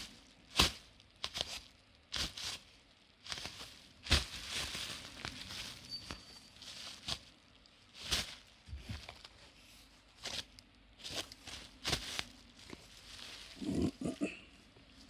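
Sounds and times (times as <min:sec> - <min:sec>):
rustling and crinkling handling noise: 0:00.0 - 0:15.0.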